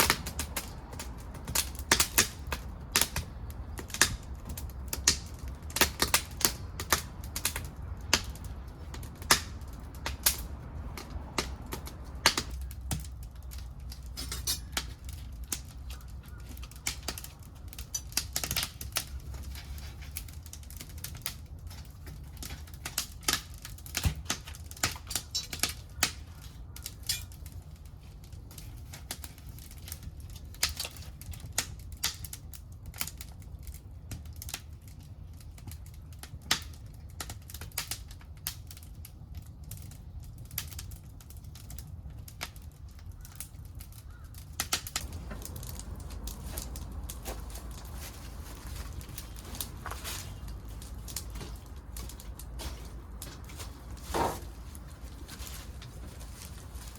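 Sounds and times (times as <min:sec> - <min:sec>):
low fire rumble: 0:00.0 - 0:56.9
wood fire crackling and popping: 0:00.0 - 0:56.9.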